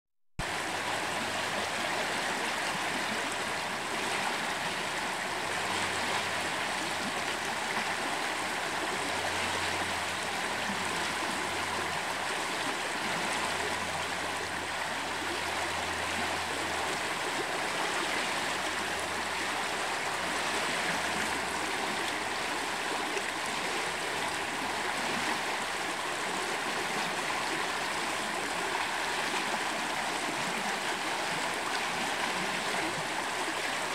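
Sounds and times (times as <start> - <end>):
river current rushing over rocks: 0.4 - 33.9.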